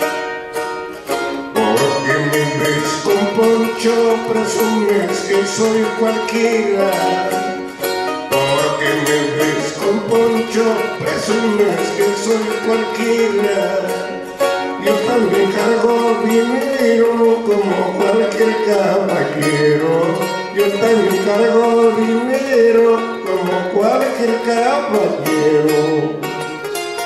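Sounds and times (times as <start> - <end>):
charango strummed and plucked: 0.0 - 27.0
man singing: 1.3 - 26.6.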